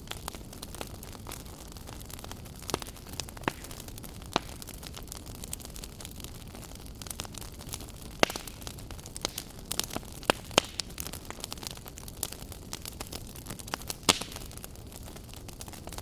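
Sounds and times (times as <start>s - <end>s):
fire crackling and popping: 0.0s - 16.0s
flames rumbling: 0.0s - 16.0s.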